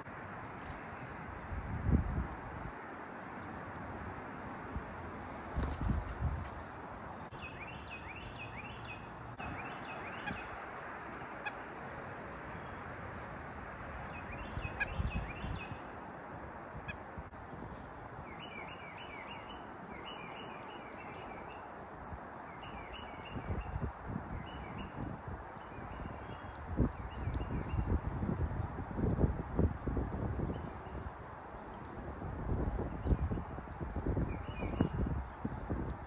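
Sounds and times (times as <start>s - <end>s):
songbirds chirping: 0.0s - 29.0s, 30.3s - 36.0s
steady outdoor hiss: 0.0s - 36.0s.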